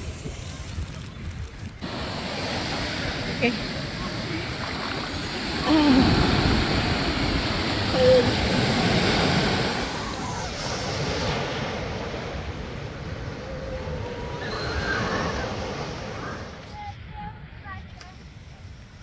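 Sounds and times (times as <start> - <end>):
ocean surf washing on beach: 0.0 - 16.9.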